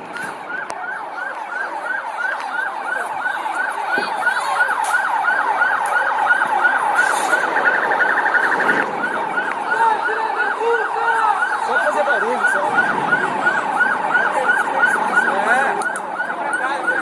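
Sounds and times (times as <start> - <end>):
police sirens yelping: 0.0 - 17.0.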